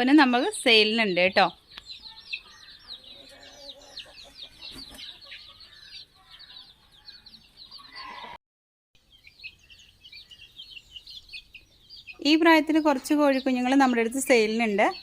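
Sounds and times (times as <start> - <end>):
chicks peeping: 0.2 - 8.4, 9.0 - 15.0.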